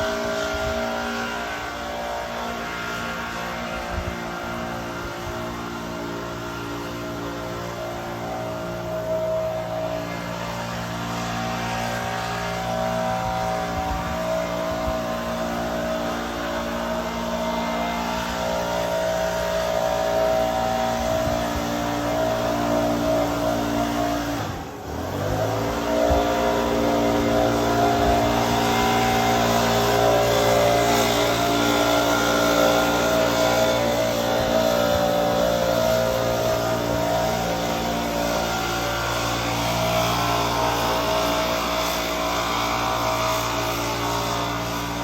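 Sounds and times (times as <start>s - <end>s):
bus engine running: 0.0s - 45.0s.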